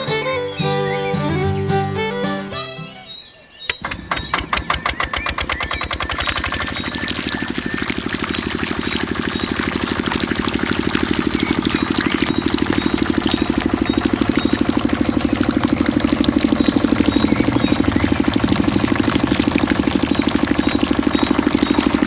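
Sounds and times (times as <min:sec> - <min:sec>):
water pump diesel engine running: 0:03.7 - 0:22.0.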